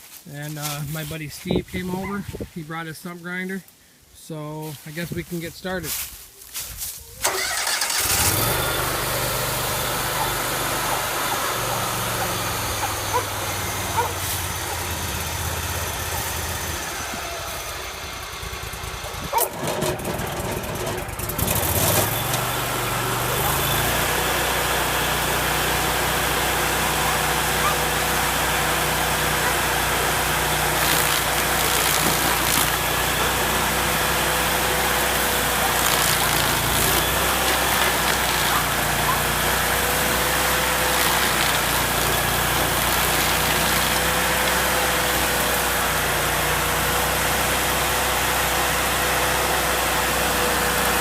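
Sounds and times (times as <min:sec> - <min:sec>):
stump grinder engine running: 0:07.2 - 0:51.0.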